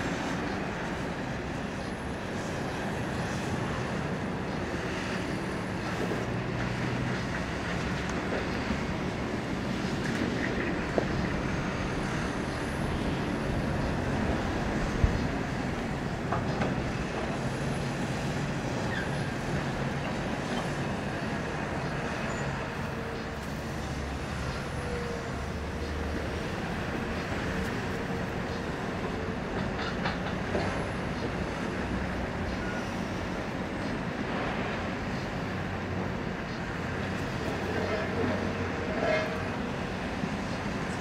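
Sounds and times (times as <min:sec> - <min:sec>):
excavator diesel engine and hydraulics: 0:00.0 - 0:41.0.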